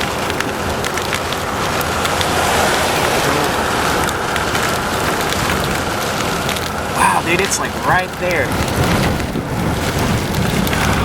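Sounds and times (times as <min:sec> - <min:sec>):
heavy rain on a car: 0:00.0 - 0:11.0
vehicle road noise: 0:00.0 - 0:11.0.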